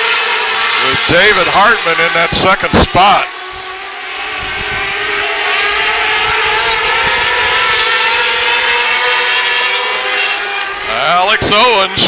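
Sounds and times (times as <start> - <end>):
racing cars high-revving engines: 0.0 - 12.0.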